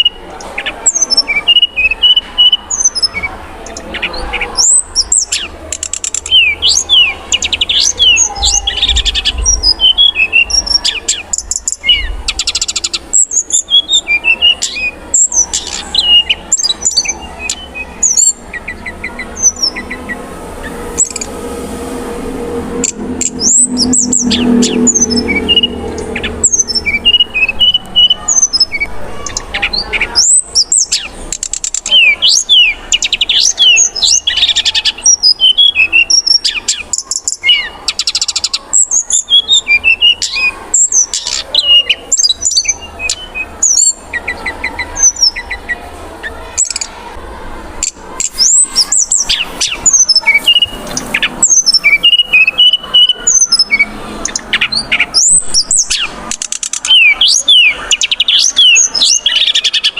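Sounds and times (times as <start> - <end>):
bird singing whistled notes: 0.0 - 21.4, 22.8 - 45.8, 48.2 - 59.9.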